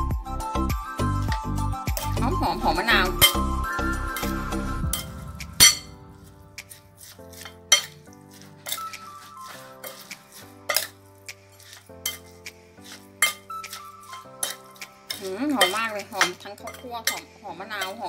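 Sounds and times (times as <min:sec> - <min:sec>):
soft background music: 0:00.0 - 0:18.0
metal spoon scraping bowl: 0:02.0 - 0:18.0.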